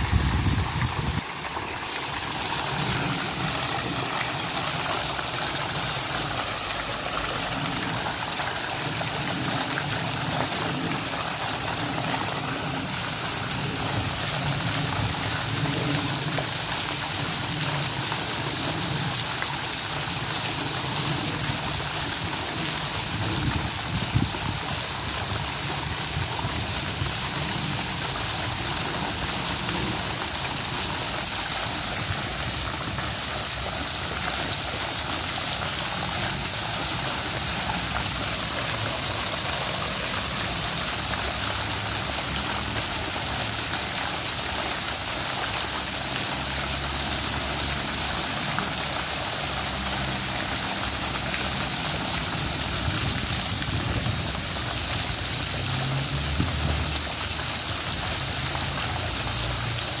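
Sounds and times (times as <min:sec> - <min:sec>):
fountain water splashing: 0:00.0 - 1:00.0.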